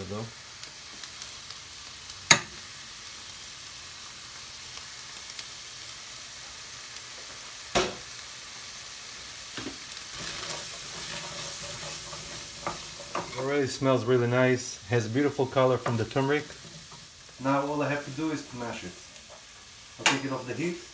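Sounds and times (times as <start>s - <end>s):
food sizzling in a pan: 0.0s - 20.9s.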